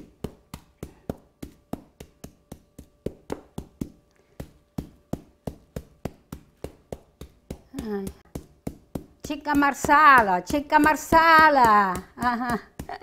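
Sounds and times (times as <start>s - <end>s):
meat mallet pounding: 0.0s - 13.0s.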